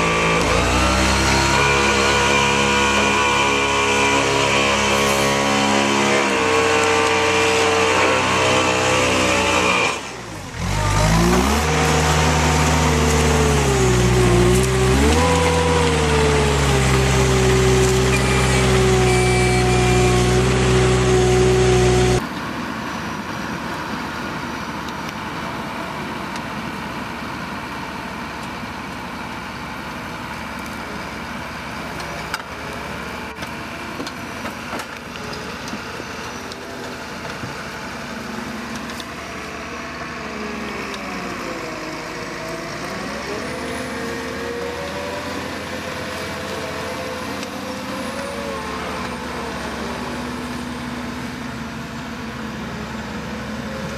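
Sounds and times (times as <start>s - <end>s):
diesel engine revving: 0.0s - 22.2s, 26.8s - 53.9s
machine engine running loud: 0.0s - 22.2s, 29.8s - 53.9s.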